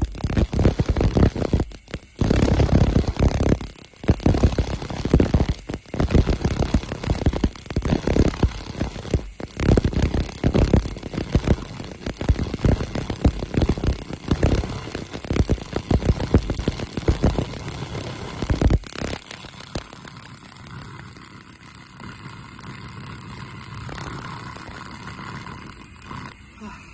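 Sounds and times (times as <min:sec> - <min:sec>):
laser cleaner crackling and snapping: 0:00.0 - 0:26.4
steady background noise: 0:00.0 - 0:26.9.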